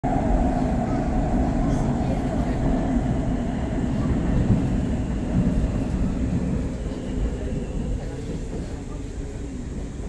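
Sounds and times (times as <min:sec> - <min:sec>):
metro train rumble: 0:00.0 - 0:10.0.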